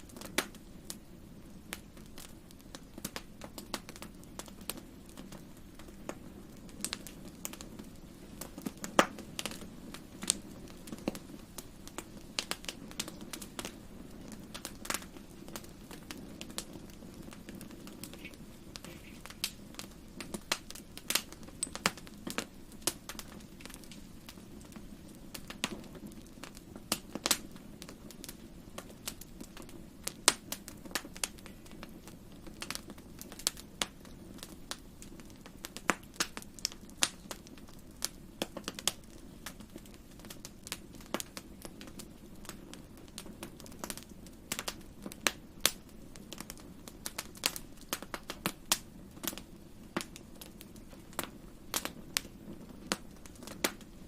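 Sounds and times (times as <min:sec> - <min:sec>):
fire crackling and popping: 0:00.0 - 0:54.0
low rush of fire: 0:00.0 - 0:54.0.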